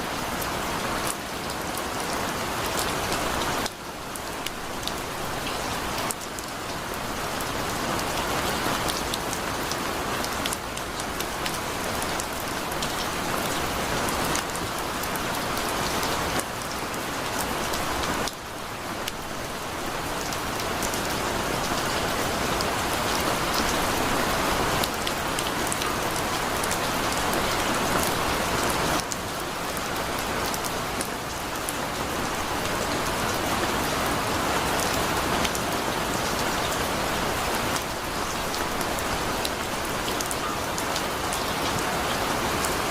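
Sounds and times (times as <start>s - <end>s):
heavy rain on hard surface: 0.0s - 42.9s.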